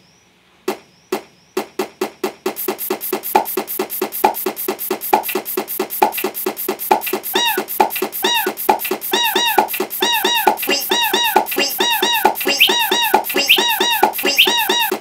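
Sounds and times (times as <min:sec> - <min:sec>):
person beatboxing: 0:02.5 - 0:15.0.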